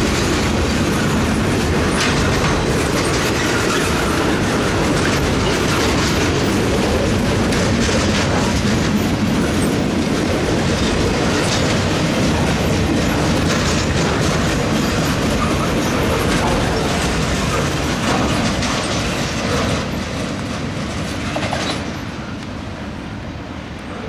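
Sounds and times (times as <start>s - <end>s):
freight train wheels on rail: 0.0s - 24.0s.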